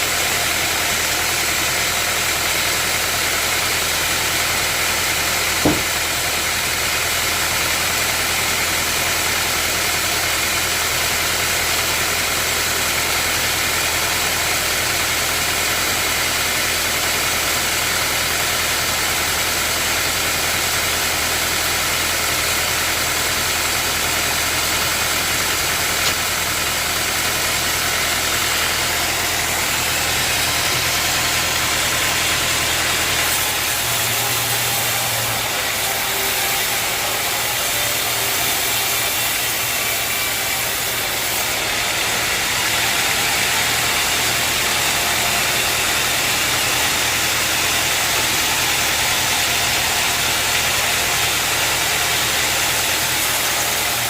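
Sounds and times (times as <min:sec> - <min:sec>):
sawmill machinery hiss: 0:00.0 - 0:54.0.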